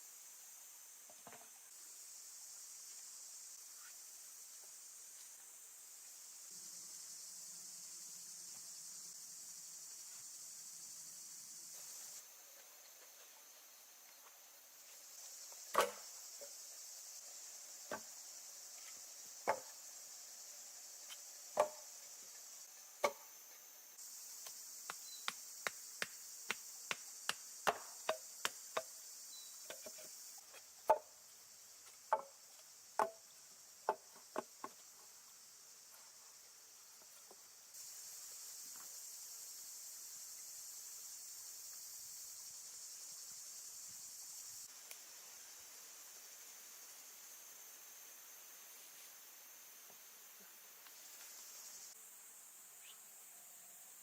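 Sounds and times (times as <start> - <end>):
insects chirring: 0.0 - 54.0.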